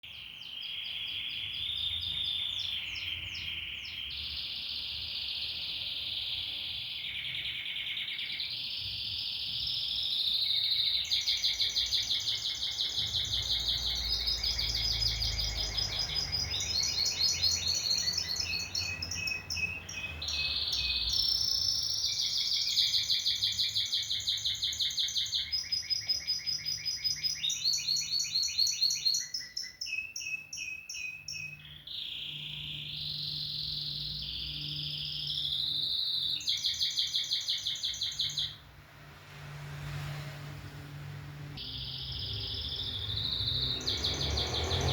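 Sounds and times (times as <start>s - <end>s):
canary singing: 0.0s - 38.6s, 41.6s - 44.9s.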